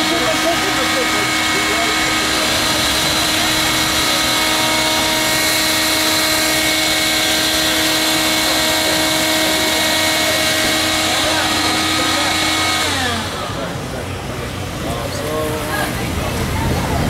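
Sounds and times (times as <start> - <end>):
electric air blower humming: 0.0 - 17.0.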